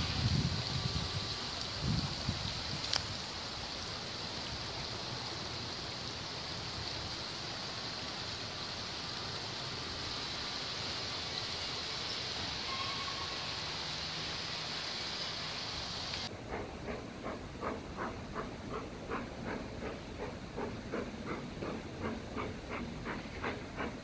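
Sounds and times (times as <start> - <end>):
steam hissing from locomotive: 0.0 - 24.0.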